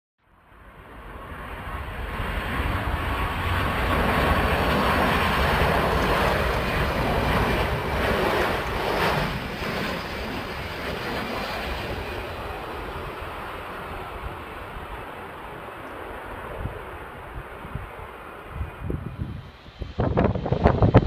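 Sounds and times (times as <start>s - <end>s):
jet engines rushing on landing: 0.3s - 21.0s.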